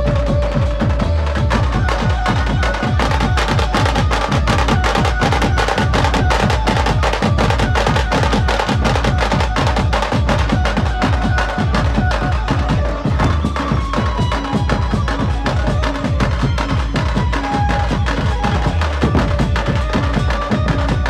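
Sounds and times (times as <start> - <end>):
side drums and bass drums: 0.0 - 21.0.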